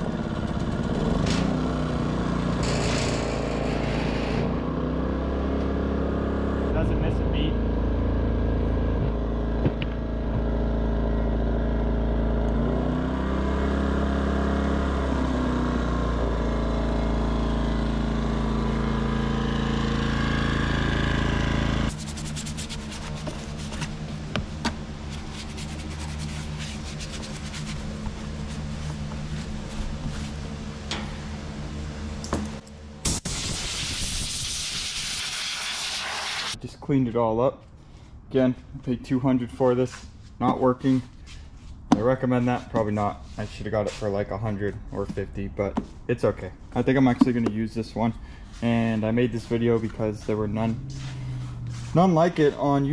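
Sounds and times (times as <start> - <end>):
generator engine running: 0.0 - 33.6, 37.8 - 52.9.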